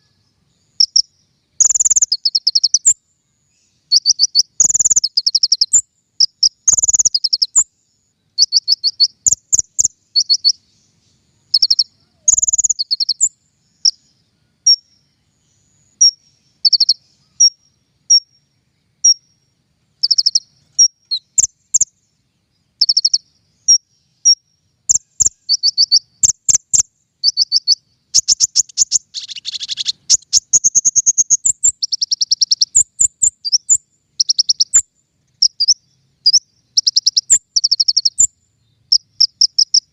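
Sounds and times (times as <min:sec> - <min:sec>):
songbird singing rapid high notes: 0:00.0 - 0:03.0, 0:03.6 - 0:07.7, 0:08.3 - 0:19.4, 0:20.0 - 0:22.0, 0:22.6 - 0:34.8, 0:35.4 - 0:39.9.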